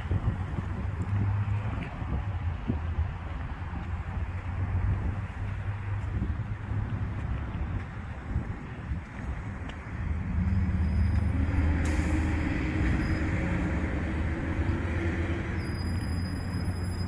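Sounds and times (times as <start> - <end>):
heavy vehicle engine rumble: 0.0 - 17.0.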